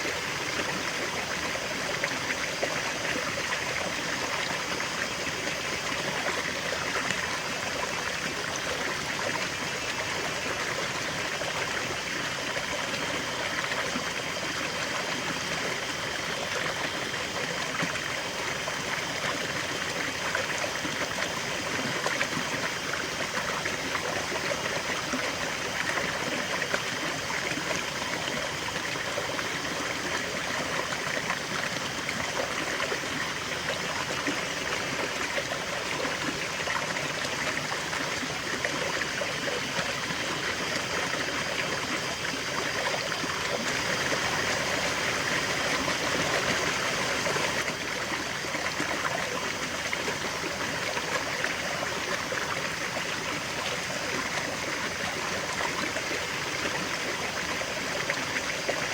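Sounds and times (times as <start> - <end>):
river water over rocks: 0.0 - 58.9.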